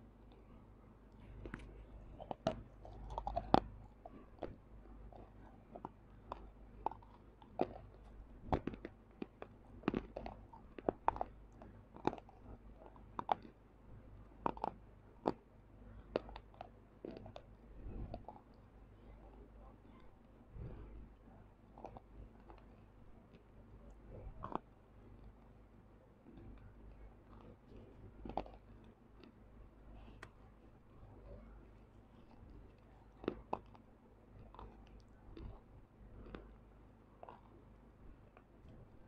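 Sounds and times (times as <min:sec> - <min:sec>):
crunchy chewing: 0:01.1 - 0:13.6, 0:14.2 - 0:25.5, 0:26.2 - 0:39.0.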